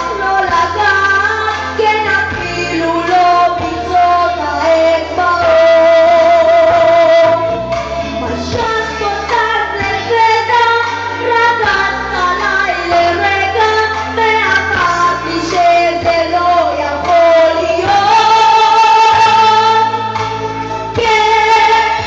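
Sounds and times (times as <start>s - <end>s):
band backing: 0.0s - 22.0s
person singing pop melody: 0.0s - 22.0s.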